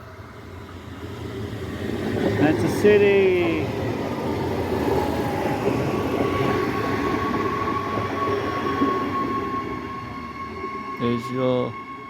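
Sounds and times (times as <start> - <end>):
train wheels rumbling on rails: 1.6 - 11.4.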